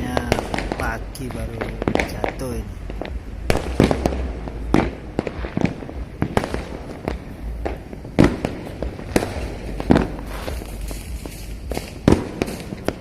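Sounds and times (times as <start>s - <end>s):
fireworks bangs and pops: 0.0s - 13.0s
low continuous rumble: 0.0s - 13.0s.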